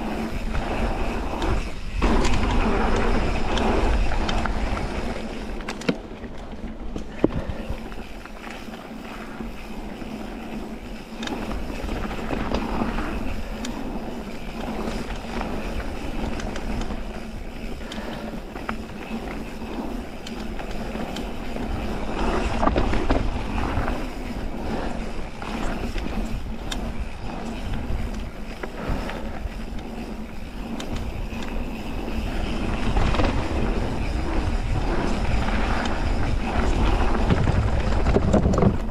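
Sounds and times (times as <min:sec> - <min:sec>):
bike rattling over bumps: 0:00.0 - 0:38.9
tyres on gravel: 0:00.0 - 0:38.9
wind rumbling on microphone: 0:00.0 - 0:38.9.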